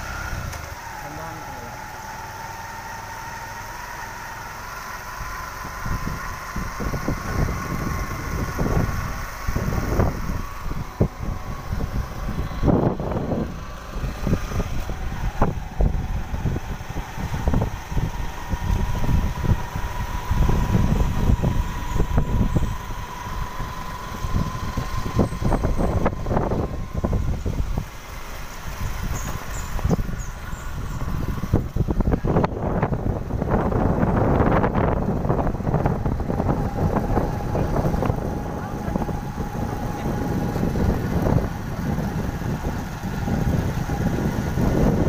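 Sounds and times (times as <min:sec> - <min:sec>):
motorcycle engine whine: 0:00.0 - 0:45.0
wind on microphone: 0:05.6 - 0:45.0.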